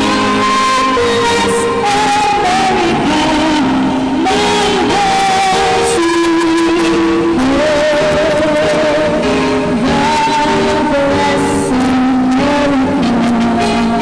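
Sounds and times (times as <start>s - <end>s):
instrumental backing music: 0.0s - 14.0s
woman singing with vibrato: 0.0s - 14.0s.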